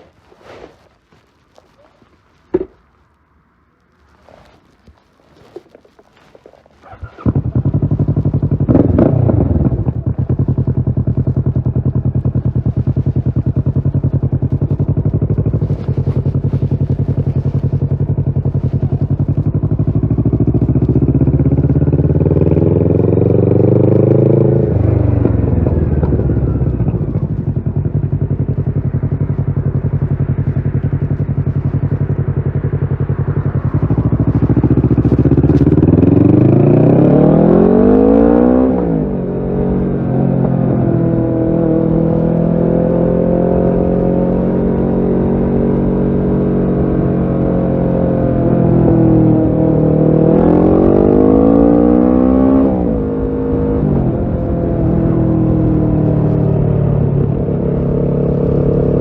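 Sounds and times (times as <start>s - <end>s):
motorcycle engine idling and revving: 4.1s - 59.0s.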